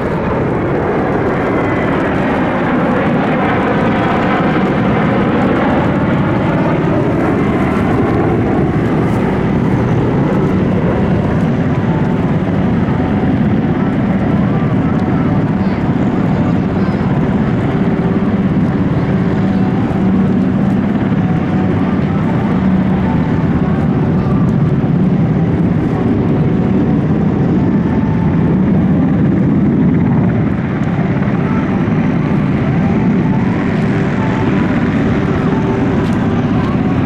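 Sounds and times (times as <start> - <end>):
aircraft engines droning overhead: 0.0 - 37.0.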